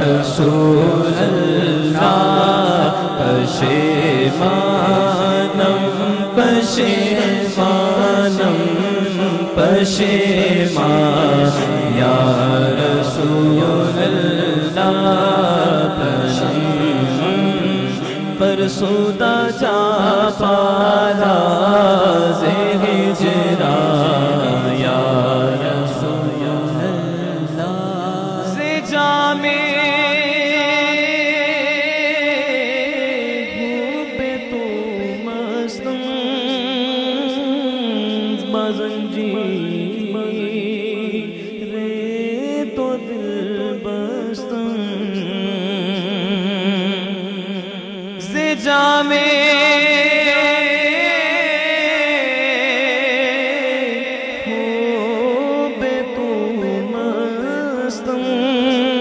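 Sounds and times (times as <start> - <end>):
man singing into a microphone: 0.0 - 59.0.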